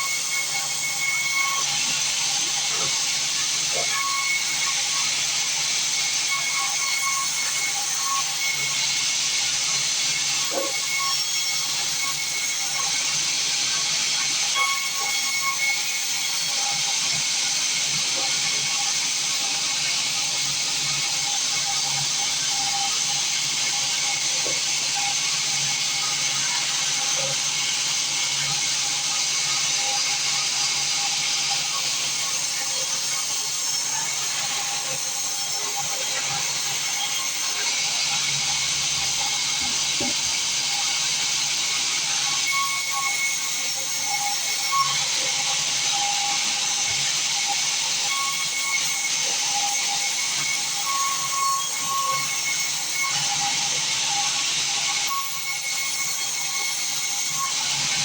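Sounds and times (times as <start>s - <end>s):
band saw hissing and whining: 0.0s - 58.0s.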